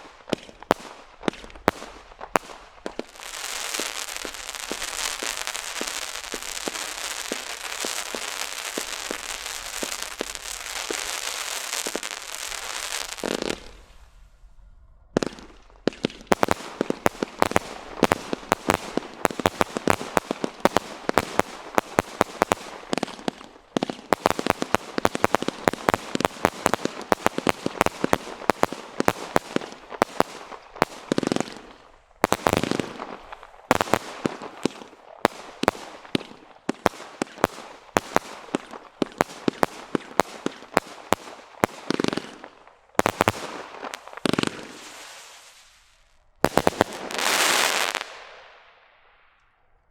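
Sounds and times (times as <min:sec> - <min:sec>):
firework shots and bursts: 0:00.0 - 0:13.9, 0:15.2 - 0:48.8
firework crackle: 0:00.0 - 0:14.4, 0:15.2 - 0:49.7.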